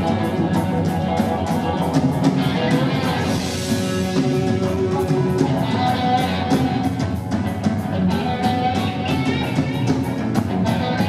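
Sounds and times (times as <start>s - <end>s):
punk rock band playing: 0.0s - 11.0s.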